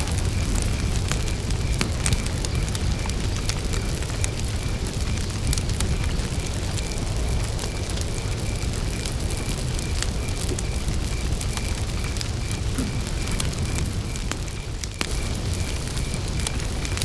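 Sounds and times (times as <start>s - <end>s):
campfire crackling and popping: 0.0s - 17.0s
cricket chirping: 0.0s - 17.0s.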